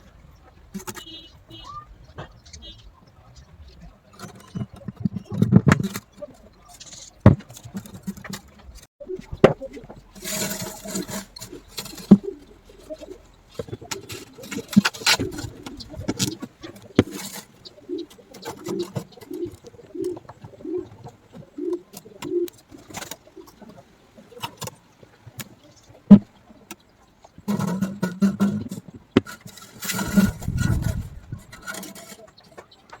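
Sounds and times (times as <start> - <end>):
scattered clicks and knocks: 0.5 - 1.3, 4.1 - 33.0.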